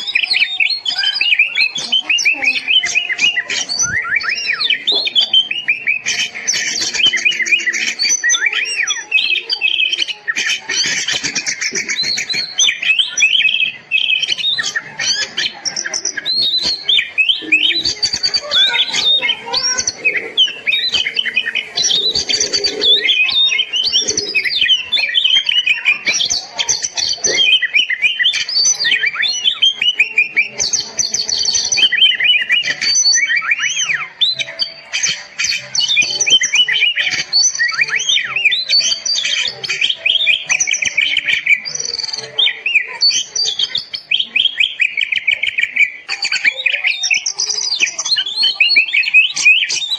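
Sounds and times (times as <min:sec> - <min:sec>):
magpie-robin singing: 0:00.0 - 0:49.9.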